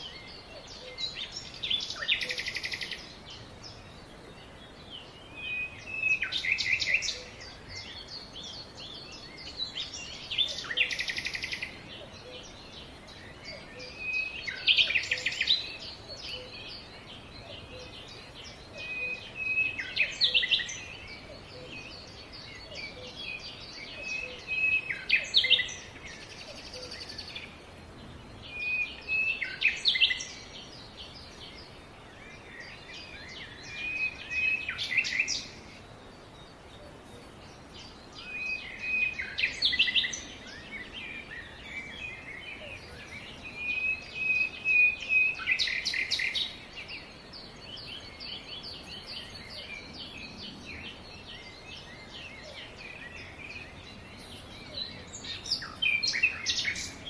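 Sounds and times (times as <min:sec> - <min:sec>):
bird song phrase: 0:00.0 - 0:57.0
birds chirping: 0:00.0 - 0:57.0.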